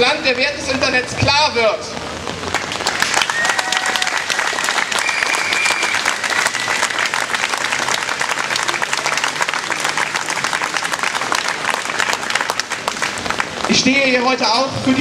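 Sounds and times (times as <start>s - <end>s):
crowd applauding: 2.2s - 14.4s.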